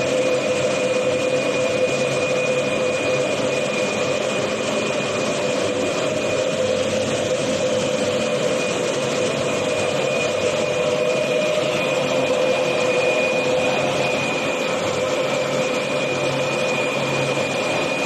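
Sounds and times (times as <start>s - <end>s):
thin high whine: 0.0s - 18.0s.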